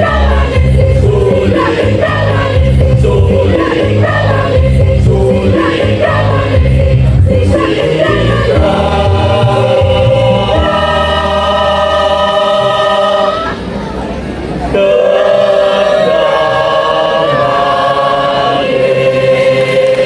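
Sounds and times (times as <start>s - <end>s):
choir singing in harmony: 0.0s - 13.7s, 14.7s - 20.0s.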